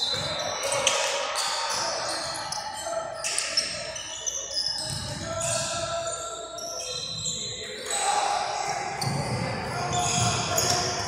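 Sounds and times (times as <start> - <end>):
faint voices: 0.0 - 11.0
sneakers squeaking: 0.0 - 11.0.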